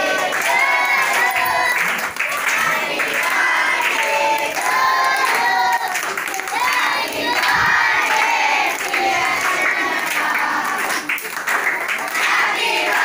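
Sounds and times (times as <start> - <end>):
children singing in chorus: 0.0 - 11.2, 11.8 - 13.0.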